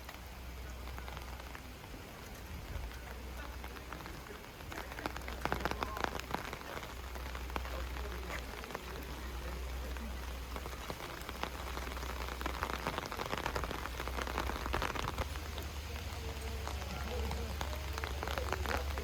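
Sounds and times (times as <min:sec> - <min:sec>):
rain hiss: 0:00.0 - 0:19.0
raindrops ticking on surfaces: 0:00.0 - 0:19.0.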